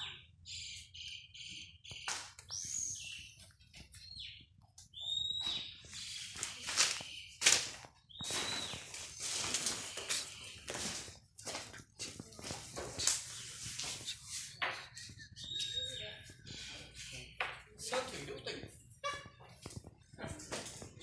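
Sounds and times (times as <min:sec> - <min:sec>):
bird chirps: 0:00.0 - 0:11.2, 0:13.0 - 0:19.4.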